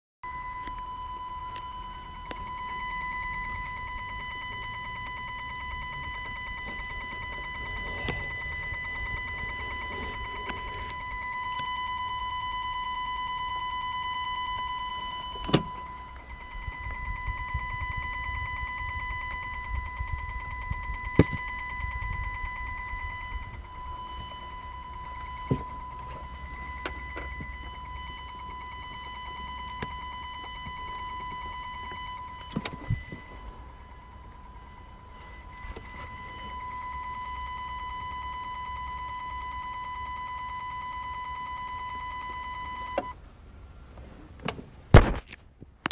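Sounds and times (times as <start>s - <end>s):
steady high-pitched whine: 0.2s - 45.2s.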